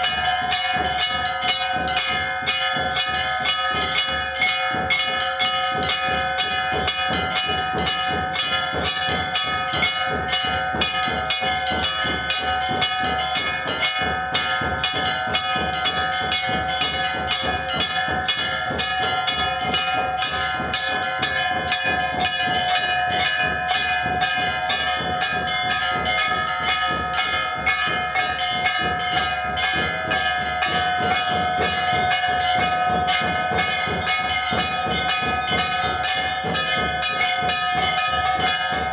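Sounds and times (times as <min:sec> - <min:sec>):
temple bells ringing: 0:00.0 - 0:38.9.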